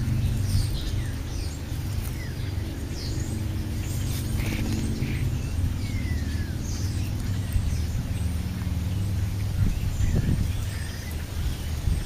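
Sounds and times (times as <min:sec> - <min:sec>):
starlings chirping: 0:00.0 - 0:12.0
steady low rumble: 0:00.0 - 0:12.0.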